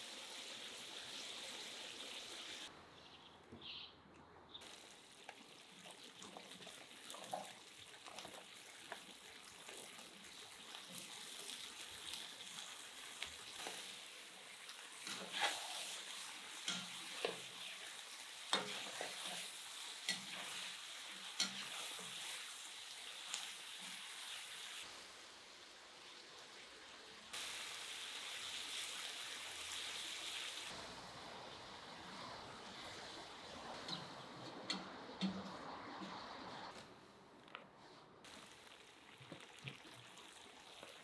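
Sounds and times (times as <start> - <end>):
meat sizzling in a pot: 0.0 - 2.7, 4.6 - 34.0, 38.3 - 41.0.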